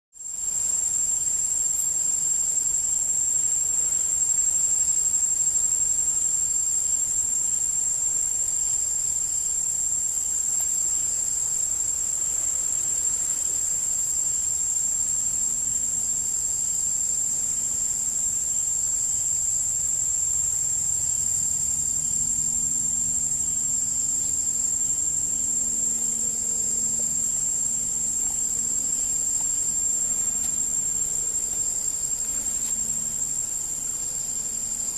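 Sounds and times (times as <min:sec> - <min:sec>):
shrill insect chorus: 0:00.2 - 0:34.9.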